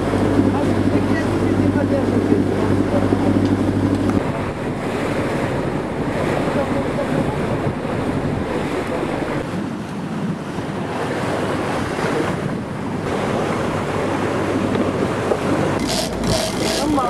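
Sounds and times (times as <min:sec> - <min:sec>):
sea water washing along hull: 0:00.0 - 0:17.0
wind noise on microphone: 0:00.0 - 0:17.0.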